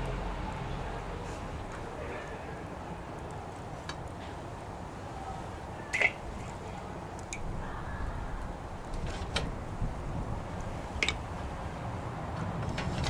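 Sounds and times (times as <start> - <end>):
fire popping: 0.0 - 13.0
wood fire crackling: 0.0 - 13.0.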